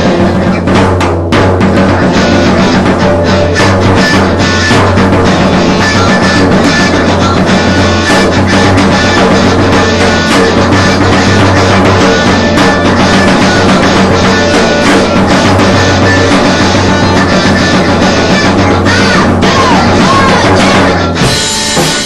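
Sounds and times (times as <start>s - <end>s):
bass guitar: 0.0s - 22.0s
distorted electric guitar: 0.0s - 22.0s
drum kit: 0.0s - 22.0s.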